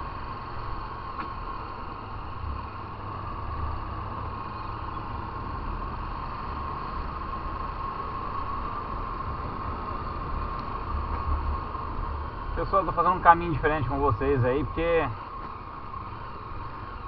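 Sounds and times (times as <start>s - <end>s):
faint steady whine: 0.0s - 17.0s
motorcycle engine running: 0.0s - 17.0s.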